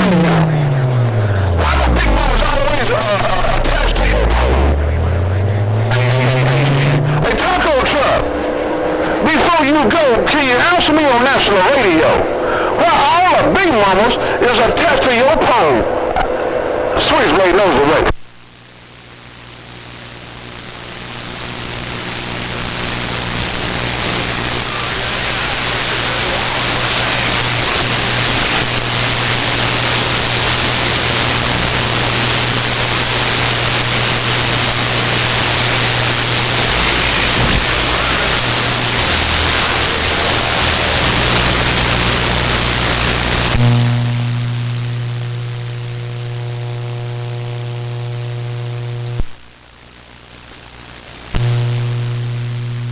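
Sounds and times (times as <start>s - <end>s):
buzzing hum with tones: 0.0s - 17.0s, 26.8s - 52.9s
radio static hiss: 0.0s - 52.9s.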